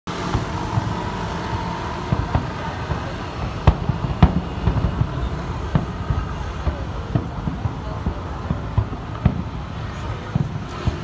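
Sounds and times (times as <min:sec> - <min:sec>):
distant fireworks booming: 0:00.1 - 0:11.0
low rumble of street traffic: 0:00.1 - 0:11.0.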